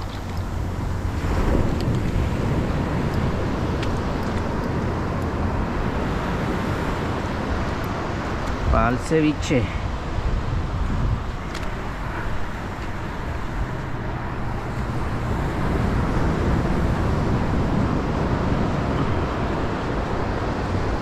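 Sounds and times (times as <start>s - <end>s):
wind on microphone: 0.0s - 9.0s, 9.8s - 21.0s.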